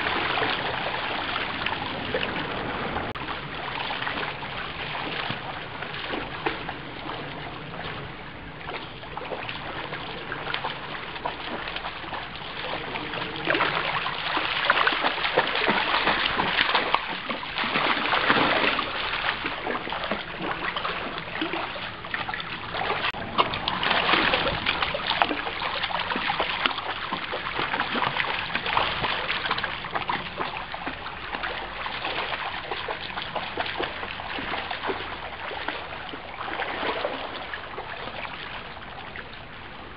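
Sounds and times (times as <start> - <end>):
dog splashing through water: 0.0 - 39.8.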